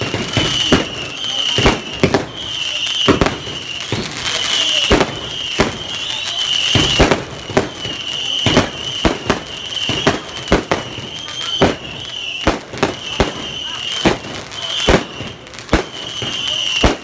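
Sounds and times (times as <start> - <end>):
fireworks bangs: 0.0 - 17.0
high whistle: 0.1 - 17.0.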